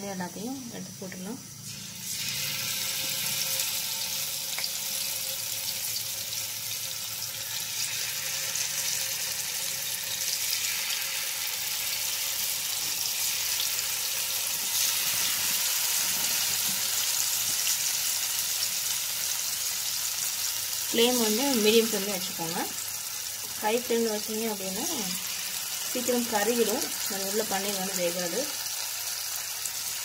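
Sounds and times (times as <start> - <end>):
food sizzling in hot oil: 0.0 - 30.0.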